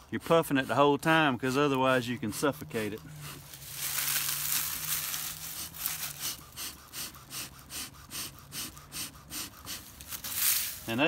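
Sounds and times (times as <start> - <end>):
bellows puffing air: 0.0 - 11.0.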